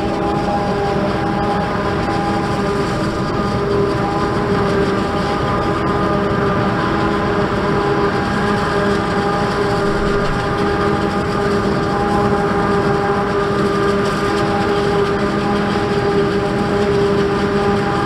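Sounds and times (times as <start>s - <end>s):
forage harvester droning: 0.0s - 18.0s.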